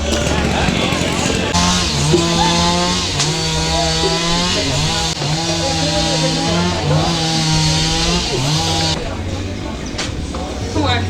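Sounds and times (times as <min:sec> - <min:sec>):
chainsaw running at high revs: 0:00.0 - 0:09.5.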